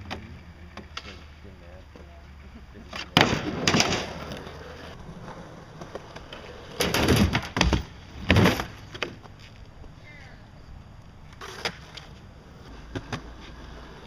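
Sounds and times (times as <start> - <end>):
skateboard wheels rolling: 0.0 - 14.0.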